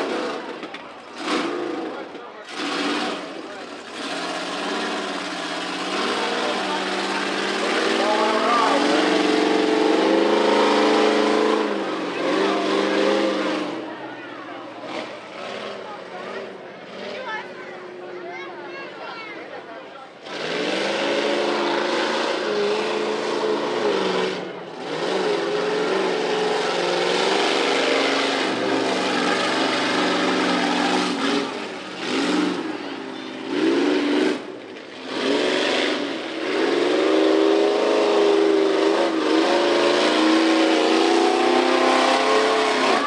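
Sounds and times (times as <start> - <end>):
truck engine revving: 0.0 - 18.2, 20.0 - 43.0.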